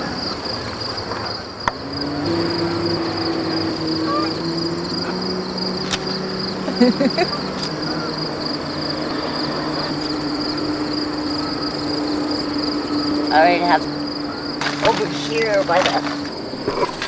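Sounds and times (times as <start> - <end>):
distant motor hum: 0.0 - 17.0
insects trilling: 0.0 - 17.0.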